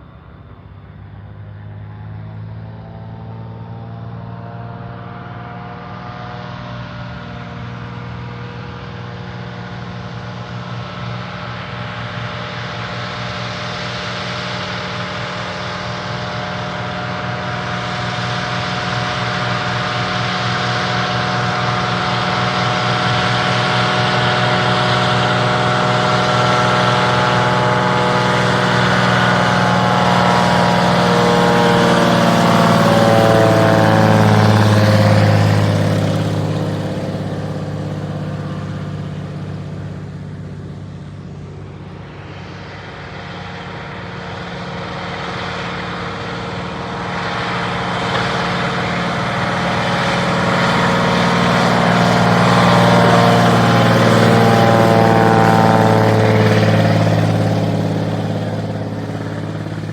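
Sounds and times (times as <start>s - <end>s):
plane engine and propeller: 0.0s - 59.9s.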